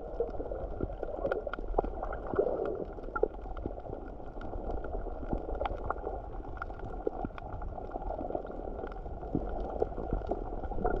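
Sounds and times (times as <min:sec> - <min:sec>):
muffled underwater rush of seawater: 0:00.0 - 0:11.0.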